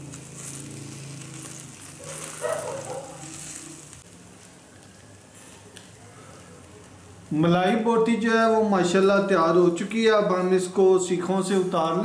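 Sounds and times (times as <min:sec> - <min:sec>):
meat sizzling over charcoal: 0:00.0 - 0:12.0.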